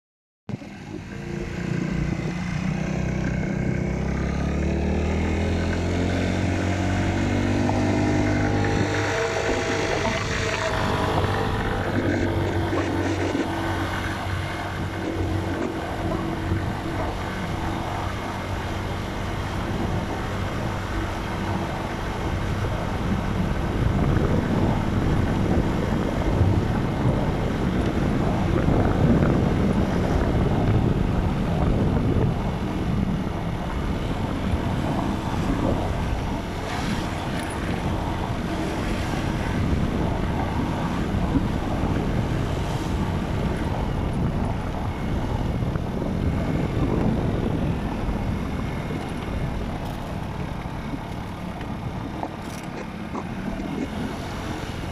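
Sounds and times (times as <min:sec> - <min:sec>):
wind rushing over microphone: 0:00.5 - 0:54.9
motocross bike engine accelerating: 0:00.8 - 0:54.9.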